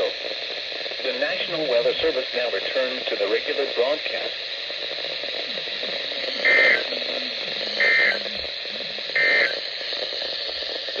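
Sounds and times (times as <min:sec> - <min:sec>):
data bursts over radio: 0:00.0 - 0:11.0
radio static: 0:00.0 - 0:11.0.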